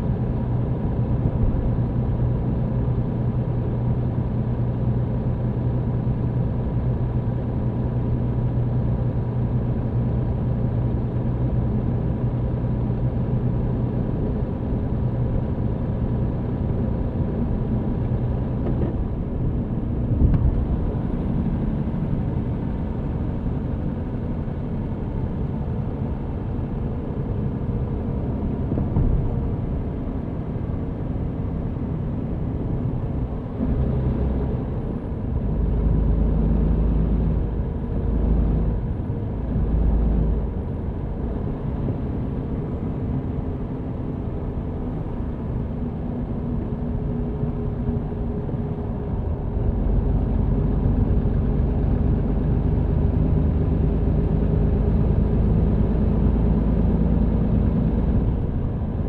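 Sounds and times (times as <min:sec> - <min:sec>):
truck diesel engine drone: 0:00.0 - 0:59.0.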